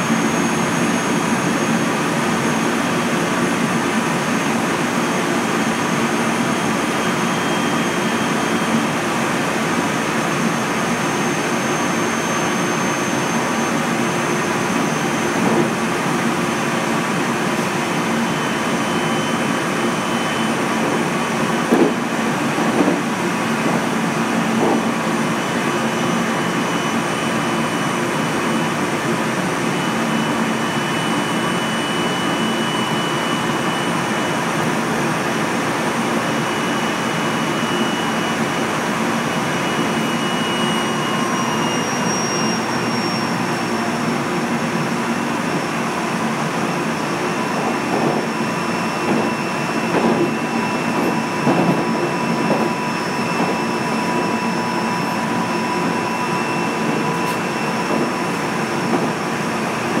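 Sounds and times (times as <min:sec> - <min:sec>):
train running noise from inside: 0:00.0 - 1:00.0.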